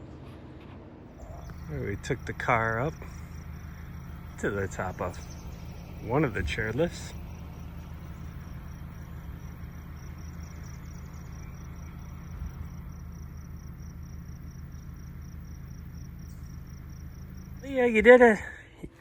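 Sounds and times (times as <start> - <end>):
steady low hum: 0.0 - 19.0
crickets chirping: 1.1 - 18.6.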